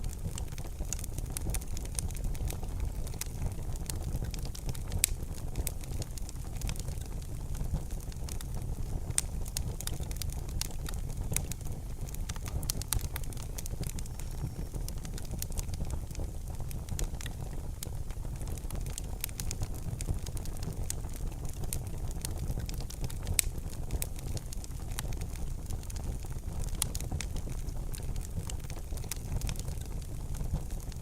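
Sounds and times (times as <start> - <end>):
fire pops and snaps: 0.0 - 31.0
low rumble of flames: 0.0 - 31.0.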